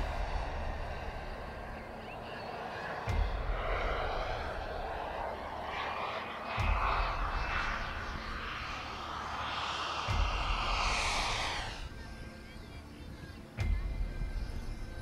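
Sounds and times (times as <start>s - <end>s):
model jet engine rushing: 0.0s - 12.4s
low rumble: 0.0s - 12.5s.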